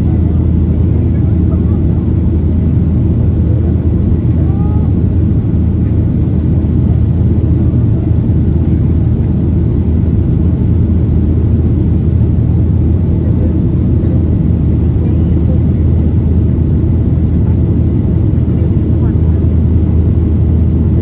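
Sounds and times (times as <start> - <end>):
airflow over fuselage: 0.0 - 21.0
airplane engines droning: 0.0 - 21.0.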